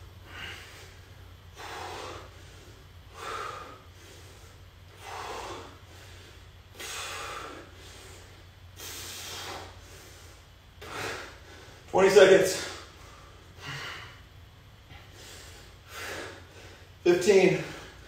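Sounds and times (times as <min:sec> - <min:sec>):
man breathing hard: 0:00.0 - 0:18.0.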